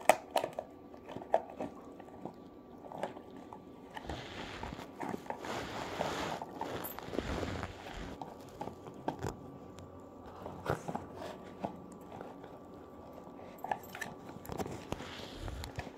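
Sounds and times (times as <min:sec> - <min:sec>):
puppy chewing cardboard: 0:00.0 - 0:15.9.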